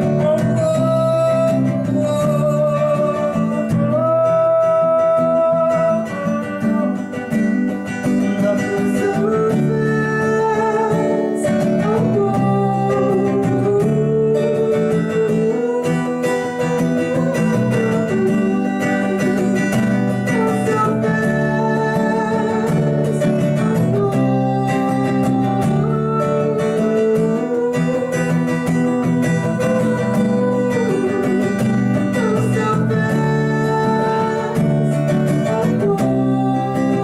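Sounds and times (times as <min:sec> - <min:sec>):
guitar: 0:00.0 - 0:37.0
wavering melodic lead line: 0:00.0 - 0:37.0.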